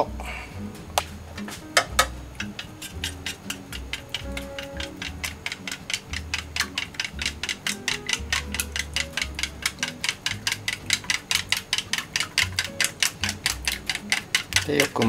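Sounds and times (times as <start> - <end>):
chopsticks beating eggs in glass: 1.9 - 15.0.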